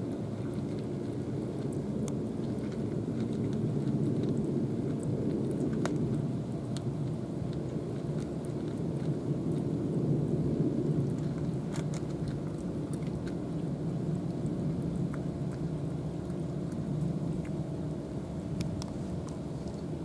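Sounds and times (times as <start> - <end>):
cat chewing food: 0.0 - 20.0
steady low rumble: 0.0 - 20.0.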